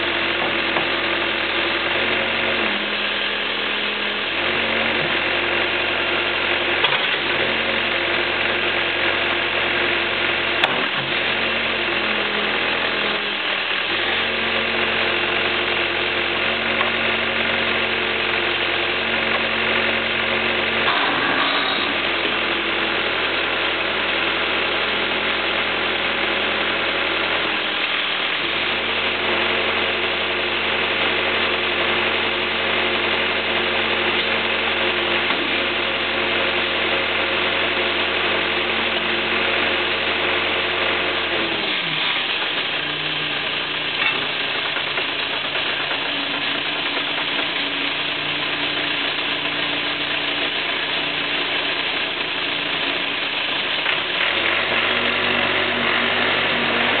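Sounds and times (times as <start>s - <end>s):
backhoe engine idling: 0.0s - 57.0s.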